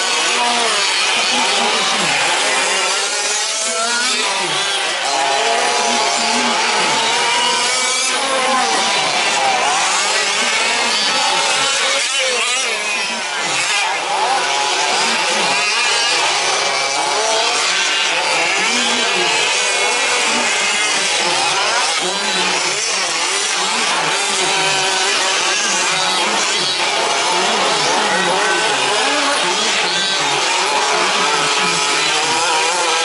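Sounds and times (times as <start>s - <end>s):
small two-stroke engines racing: 0.0s - 33.0s.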